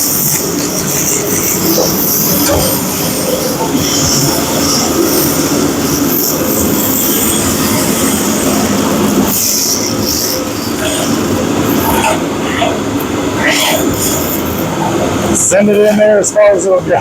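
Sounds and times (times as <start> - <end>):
abrasive wheel grinding steel: 0.0 - 16.3.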